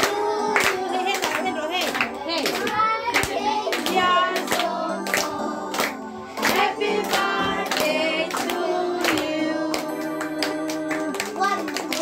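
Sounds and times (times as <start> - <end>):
hands clapping in time: 0.0 - 12.0
people singing together: 0.0 - 12.0.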